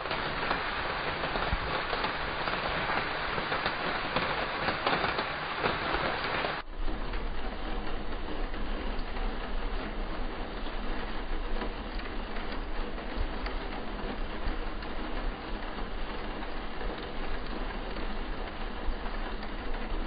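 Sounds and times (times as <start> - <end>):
rain falling: 0.0 - 20.0
raindrop taps: 0.0 - 20.0.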